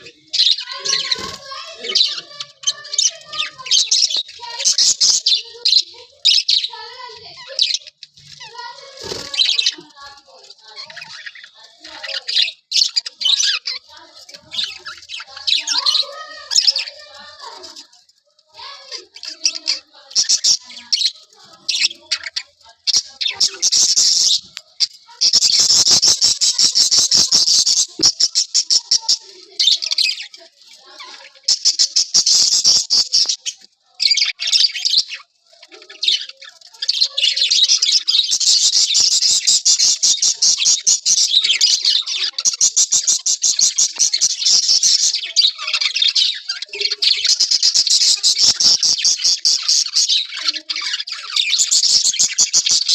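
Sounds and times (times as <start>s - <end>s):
parrots chattering: 0.0s - 52.9s.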